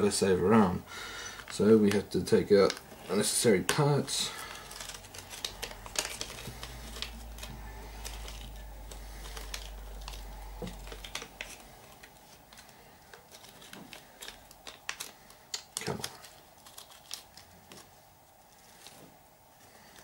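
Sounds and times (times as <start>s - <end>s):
plastic bag clicks and rustles: 1.2s - 18.0s.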